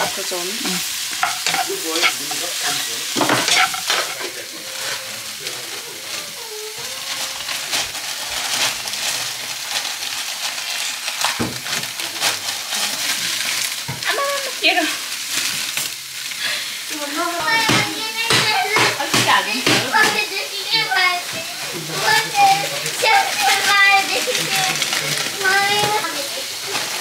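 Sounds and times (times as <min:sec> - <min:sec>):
wooden spatula scraping a pan: 0:00.0 - 0:14.8, 0:16.9 - 0:27.0
food sizzling in a wok: 0:00.0 - 0:27.0.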